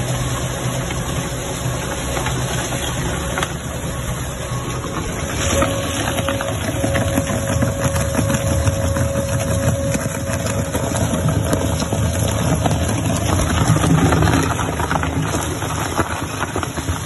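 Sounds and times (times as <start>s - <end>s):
shredder drone: 0.0s - 17.0s.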